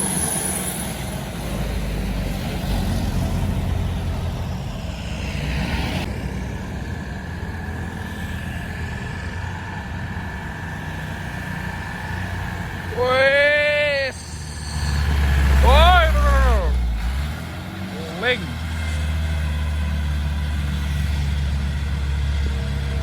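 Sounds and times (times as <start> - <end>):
road noise: 0.0 - 23.0
truck engine droning: 0.0 - 23.0.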